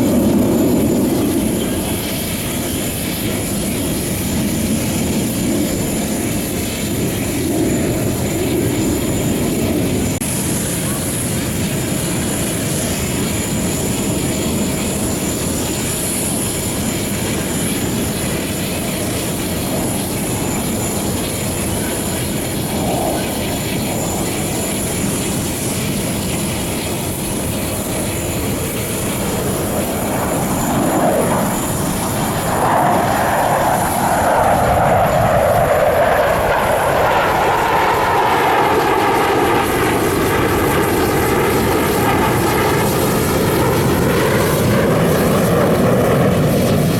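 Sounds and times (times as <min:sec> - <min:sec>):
jet aircraft roar: 0:00.0 - 0:46.9.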